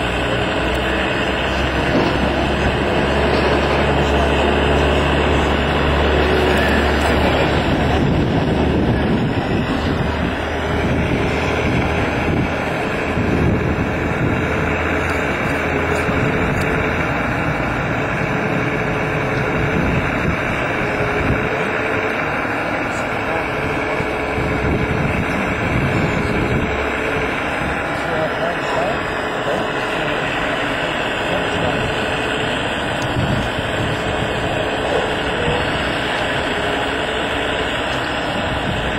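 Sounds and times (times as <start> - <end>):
hydraulic pump whine: 0.0 - 38.9.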